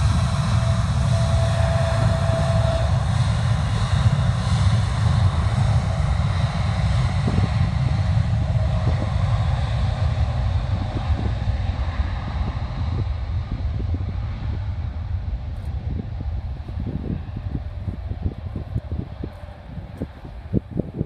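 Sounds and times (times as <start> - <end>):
faint engine whine: 0.0 - 21.0
jet engines at takeoff power: 0.0 - 21.0.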